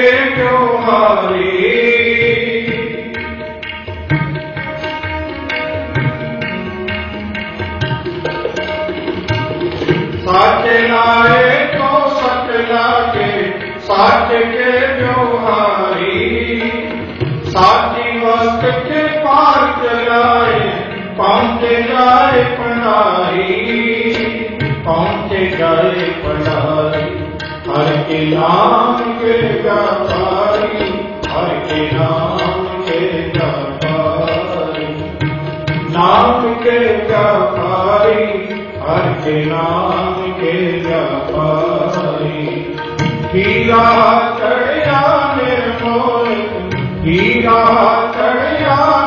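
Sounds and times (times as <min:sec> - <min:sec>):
instrumental accompaniment: 0:00.0 - 0:49.0
melodic devotional chant: 0:00.0 - 0:49.0.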